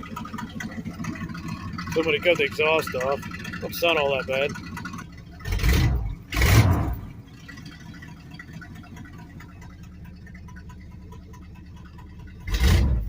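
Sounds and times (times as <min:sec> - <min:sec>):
loud engine idling: 0:00.0 - 0:13.0.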